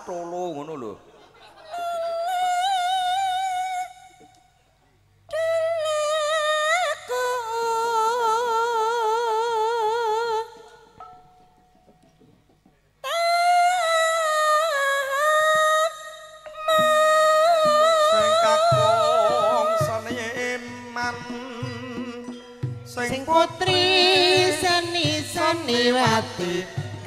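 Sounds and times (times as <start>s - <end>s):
woman singing: 1.8s - 4.3s, 5.3s - 11.0s, 13.0s - 27.0s.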